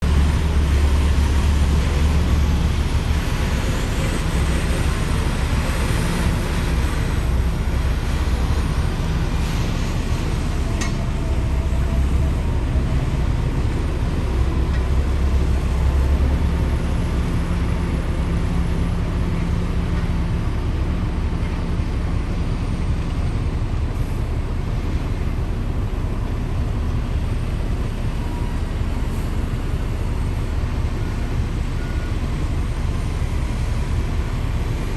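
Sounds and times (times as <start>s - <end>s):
diesel engine rumble: 0.0s - 34.9s.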